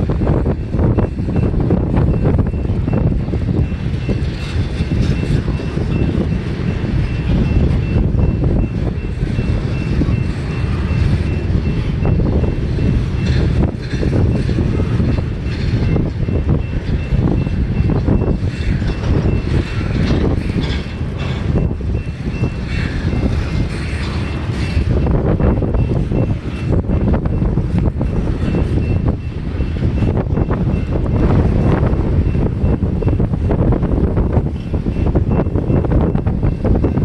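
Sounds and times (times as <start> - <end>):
train wheels rumbling on rail: 0.0 - 37.0
wind buffeting microphone: 0.0 - 37.0.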